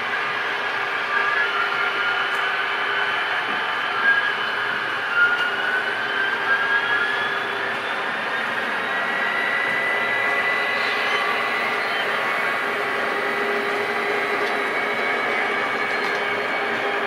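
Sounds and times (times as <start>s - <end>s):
diesel engine sound with turbo whine: 0.0s - 17.0s
model train running noise: 0.0s - 17.0s.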